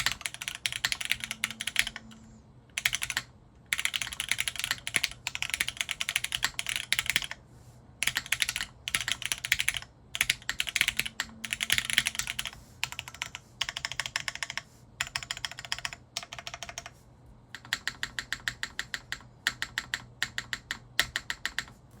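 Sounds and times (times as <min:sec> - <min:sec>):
mechanical keyboard typing: 0:00.0 - 0:07.4, 0:08.0 - 0:16.9, 0:17.5 - 0:21.8.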